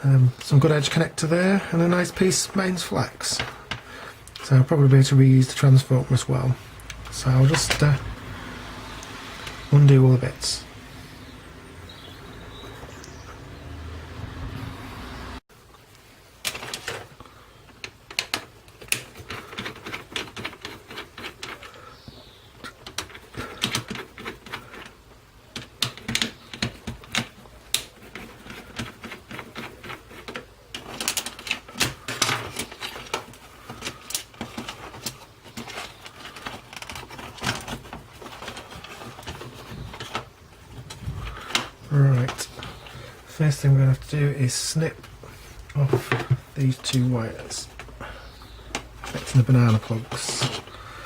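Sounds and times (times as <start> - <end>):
hand tools and parts clattering: 0.0 - 13.4, 16.4 - 51.0.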